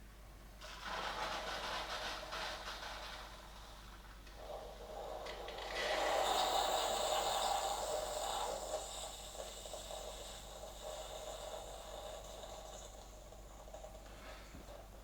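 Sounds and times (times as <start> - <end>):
coffee machine hissing: 0.6 - 15.0.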